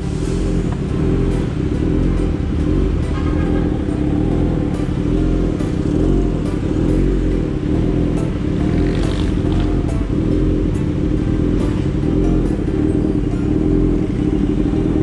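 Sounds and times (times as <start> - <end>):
motorcycle engine running at low speed: 0.0 - 15.0
music playing: 0.0 - 15.0.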